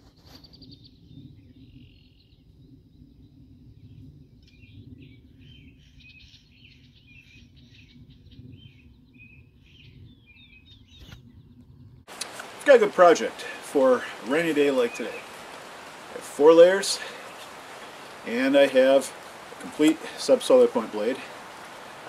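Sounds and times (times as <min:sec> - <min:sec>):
songbirds chirping: 0:00.4 - 0:22.0.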